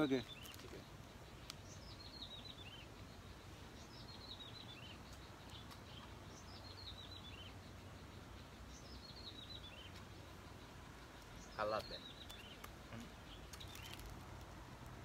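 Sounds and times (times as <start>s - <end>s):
bird singing faintly: 0.0s - 14.4s.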